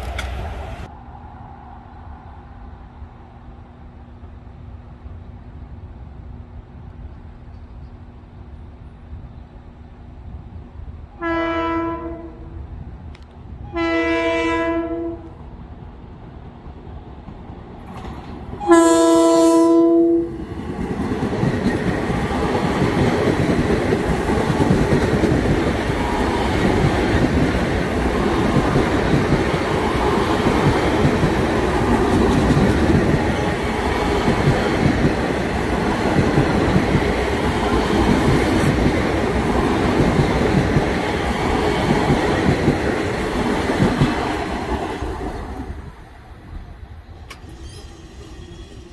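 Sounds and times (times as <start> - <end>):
train wheels on rails: 0.0 - 10.8, 15.3 - 48.9.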